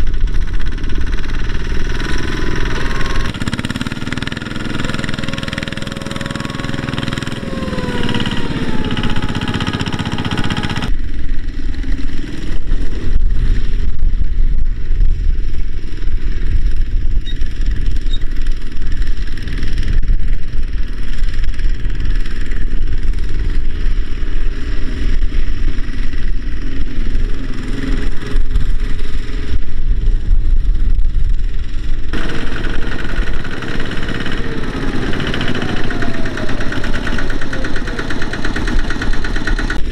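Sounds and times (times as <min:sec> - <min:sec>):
diesel tractor engine running: 0:00.0 - 0:13.8, 0:15.8 - 0:39.9.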